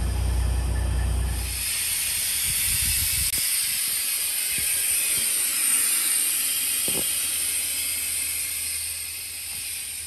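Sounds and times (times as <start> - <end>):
compressed air hissing: 1.4 - 10.0.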